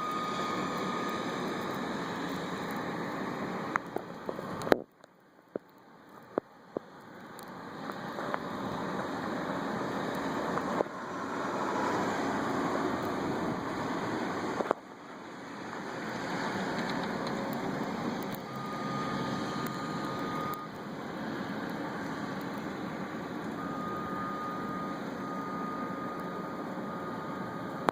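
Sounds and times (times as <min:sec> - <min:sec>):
steady high whine: 0:00.0 - 0:16.0, 0:16.8 - 0:27.9
diesel engine under load: 0:00.0 - 0:27.9.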